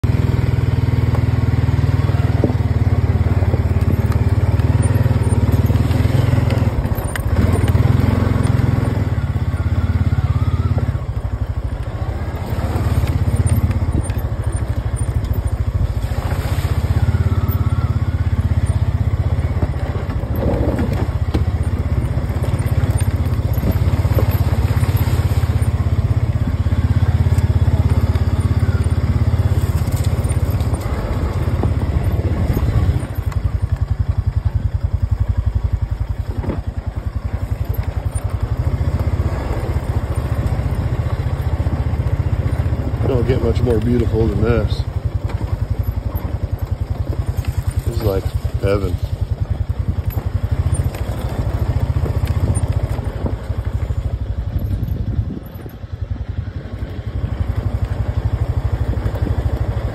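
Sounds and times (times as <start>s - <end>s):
atv engine droning: 0.0s - 59.9s.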